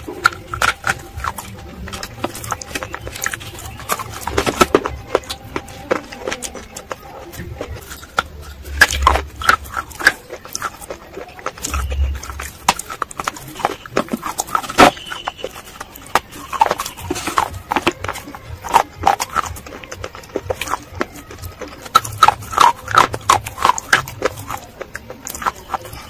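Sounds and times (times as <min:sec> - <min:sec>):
chewing sticky clay paste: 0:00.0 - 0:26.0.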